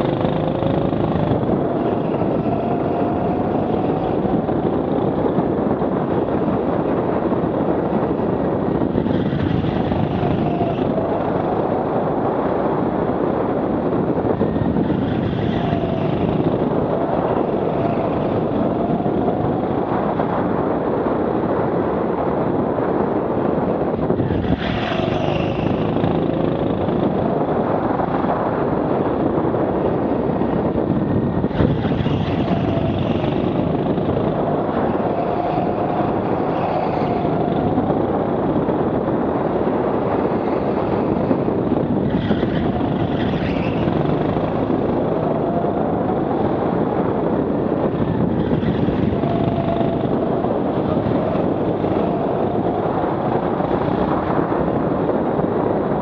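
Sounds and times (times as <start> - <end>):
go-kart motor: 0.0 - 20.6, 24.0 - 54.8
tyre and wind noise: 0.0 - 56.0.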